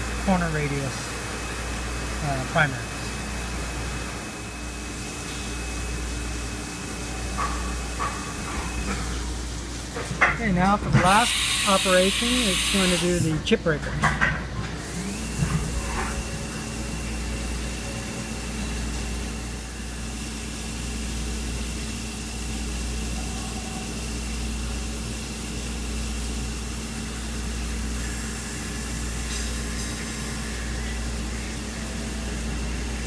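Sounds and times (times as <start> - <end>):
grinding machine hum and whine: 0.0 - 33.0.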